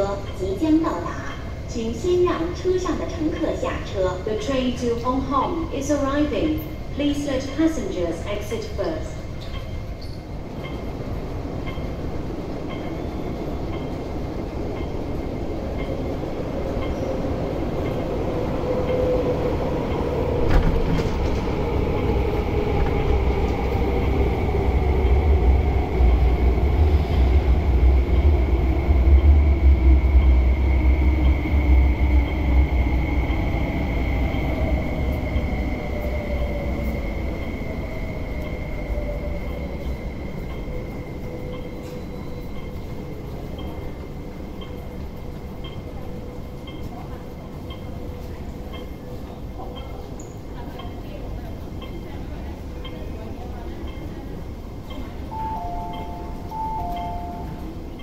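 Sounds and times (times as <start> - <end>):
train braking: 0.0 - 49.3, 53.8 - 58.0
electric train rumble: 0.0 - 58.0.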